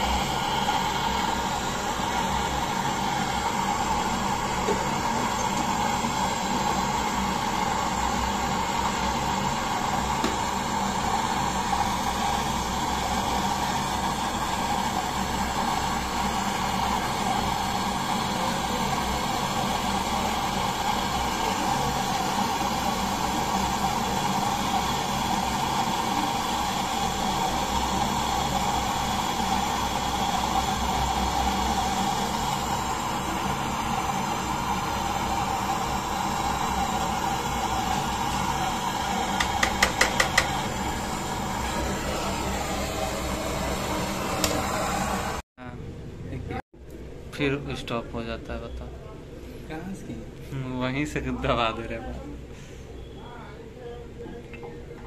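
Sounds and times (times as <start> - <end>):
gas torch flame hissing: 0.0 - 45.4.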